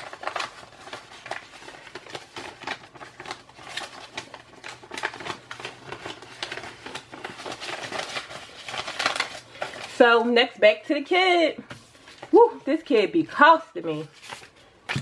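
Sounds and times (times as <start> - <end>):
paper rustling: 0.0 - 10.1, 11.7 - 13.1, 13.8 - 15.0.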